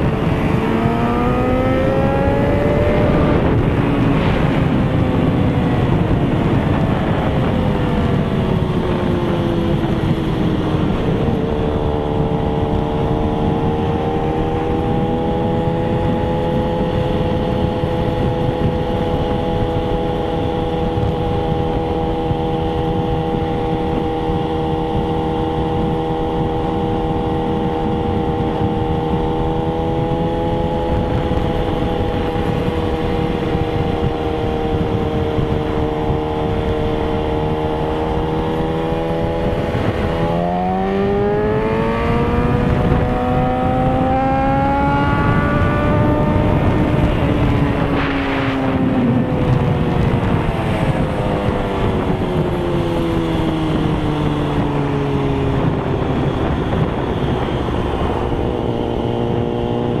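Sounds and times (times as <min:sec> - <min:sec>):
motorcycle engine cruising: 0:00.0 - 1:00.0
wind rushing over microphone: 0:00.0 - 1:00.0.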